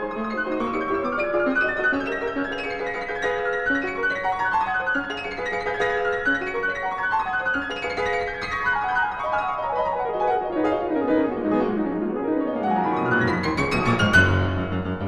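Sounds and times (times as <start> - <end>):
piano run: 0.0 - 15.0.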